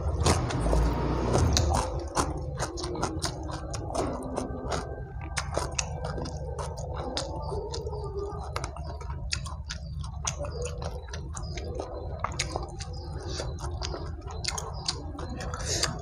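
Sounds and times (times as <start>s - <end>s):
close chewing with lip smacks: 0.0s - 16.0s
fingers picking at food: 0.0s - 16.0s
low hum: 0.0s - 16.0s.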